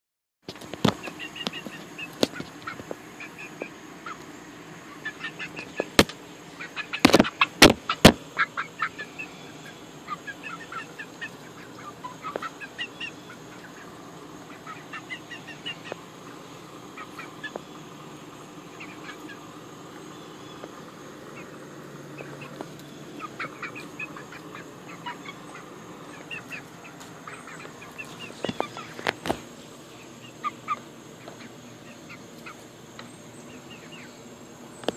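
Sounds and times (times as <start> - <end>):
faint high-pitched hum: 0.5 - 34.9.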